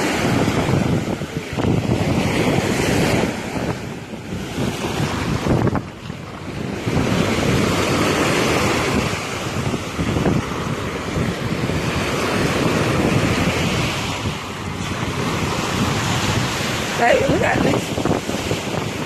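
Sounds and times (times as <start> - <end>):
surf breaking on a beach: 0.0 - 19.0
wind buffeting microphone: 0.0 - 19.0.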